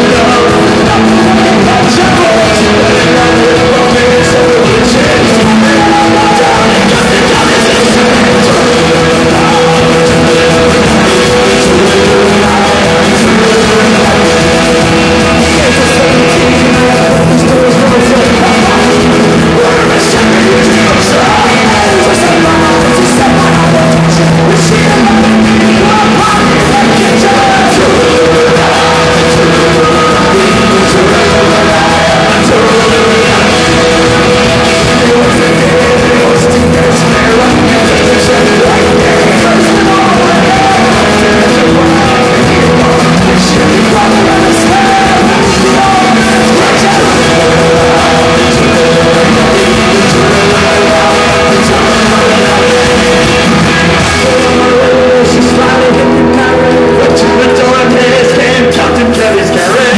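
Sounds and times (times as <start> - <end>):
folk-rock band with vocals: 0.0 - 59.9.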